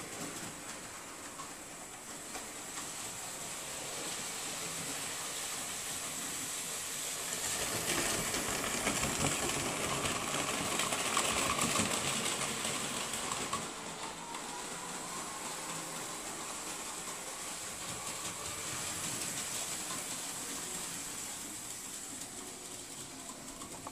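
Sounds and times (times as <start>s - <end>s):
model train rattling over track: 0.0s - 23.9s.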